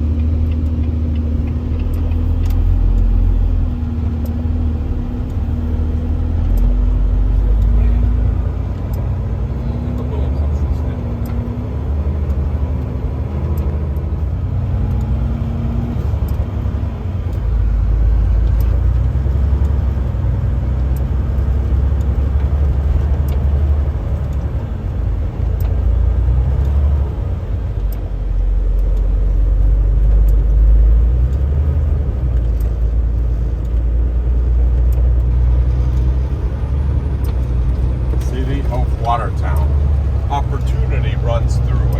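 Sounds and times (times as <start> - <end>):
truck engine and road rumble: 0.0 - 41.9.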